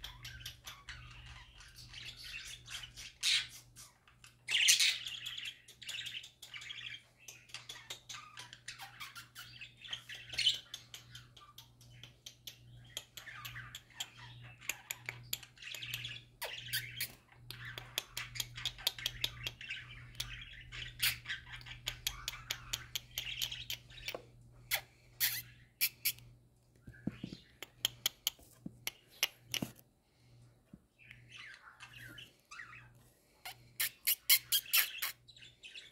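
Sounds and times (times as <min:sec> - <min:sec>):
budgerigars chattering and warbling: 0:00.0 - 0:26.3, 0:31.0 - 0:35.9.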